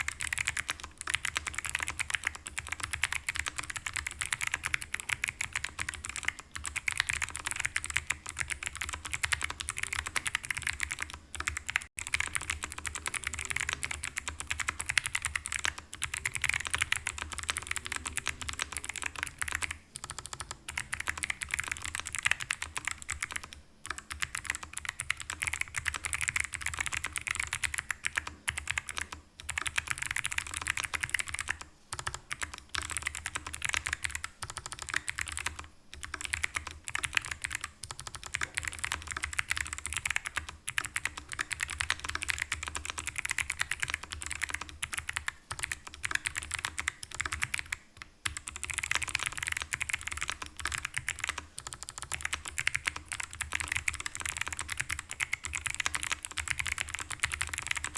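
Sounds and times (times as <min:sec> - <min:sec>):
mechanical keyboard typing: 0:00.0 - 0:57.9.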